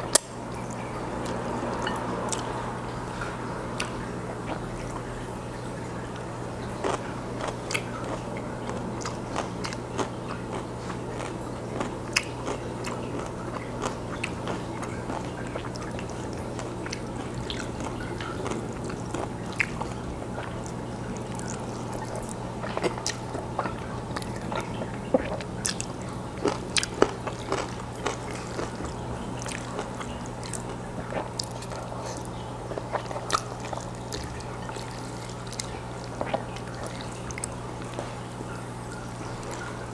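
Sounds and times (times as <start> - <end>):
chewing and wet mouth sounds: 0.0 - 39.9.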